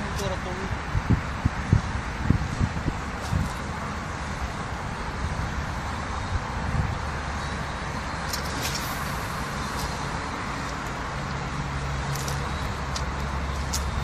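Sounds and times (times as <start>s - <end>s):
city road traffic hum: 0.0s - 14.0s.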